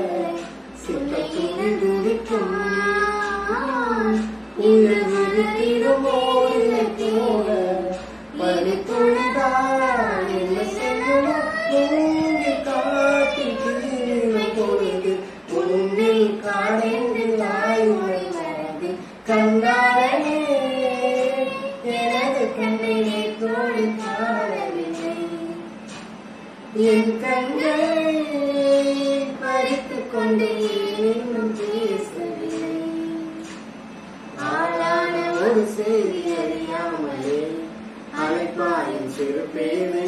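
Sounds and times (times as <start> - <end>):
girl singing: 0.0 - 25.8, 26.7 - 33.7, 34.4 - 40.0.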